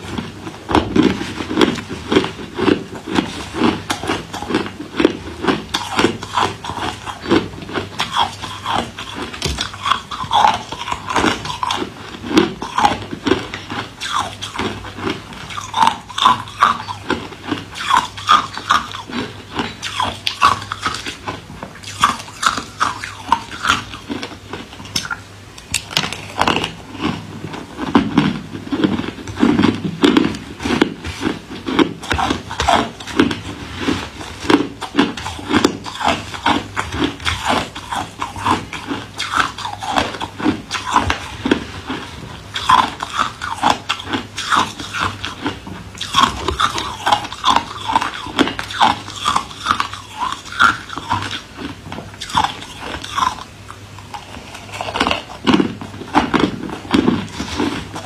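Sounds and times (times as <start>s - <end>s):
person crunching ice: 0.1s - 21.2s, 25.7s - 27.2s, 27.8s - 42.0s, 42.6s - 45.4s, 46.0s - 53.4s, 54.1s - 58.0s.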